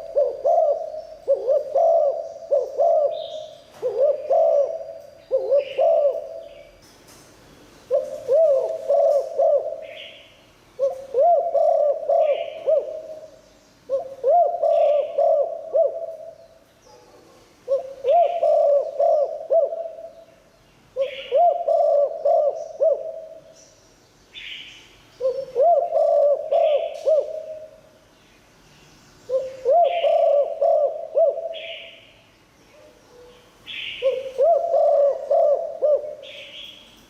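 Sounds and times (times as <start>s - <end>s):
dove cooing: 0.0s - 6.7s, 7.9s - 16.4s, 17.6s - 20.3s, 21.0s - 23.5s, 25.2s - 27.9s, 29.3s - 32.0s, 32.7s - 36.8s.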